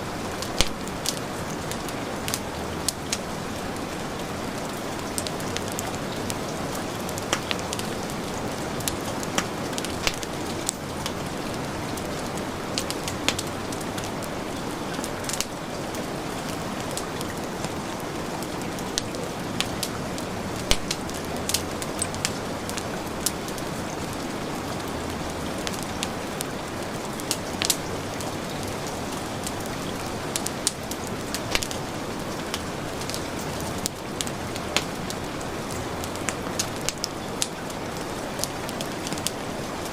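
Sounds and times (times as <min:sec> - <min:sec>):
heavy rain falling: 0:00.0 - 0:39.9
wood fire crackling and popping: 0:00.1 - 0:39.9.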